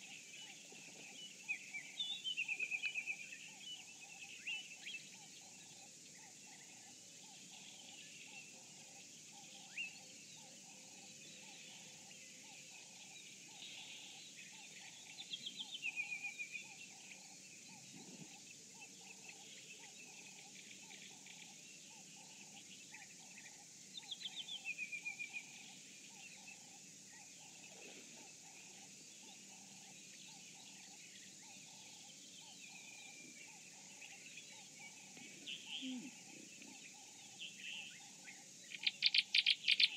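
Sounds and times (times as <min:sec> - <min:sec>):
high insect hum: 0:00.0 - 0:39.9
wild birds calling: 0:00.0 - 0:39.9.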